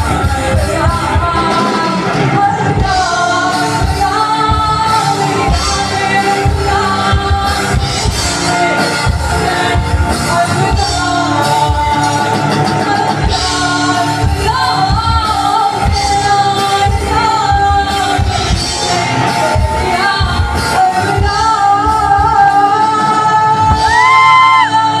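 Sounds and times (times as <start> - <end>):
drums: 0.0 - 25.0
electric guitars: 0.0 - 25.0
woman singing lead: 0.0 - 25.0.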